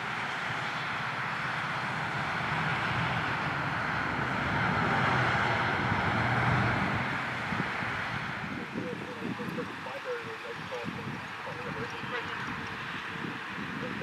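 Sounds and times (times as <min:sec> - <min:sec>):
road traffic: 0:00.0 - 0:14.0
truck diesel engine driving by: 0:00.0 - 0:14.0
tyre and road noise: 0:00.0 - 0:14.0.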